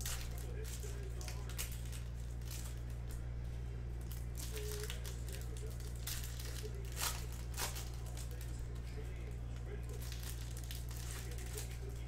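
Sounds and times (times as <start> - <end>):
foil wrapper crinkling: 0.0 - 3.2, 4.0 - 12.0
steady low hum: 0.0 - 12.0.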